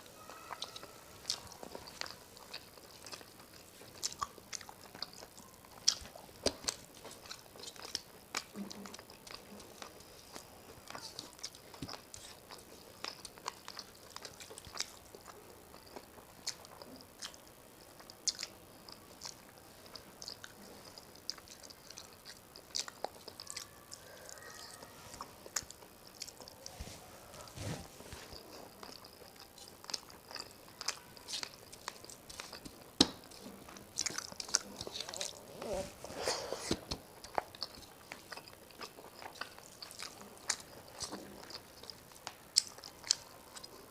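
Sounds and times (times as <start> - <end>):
chewing food: 0.0 - 43.9.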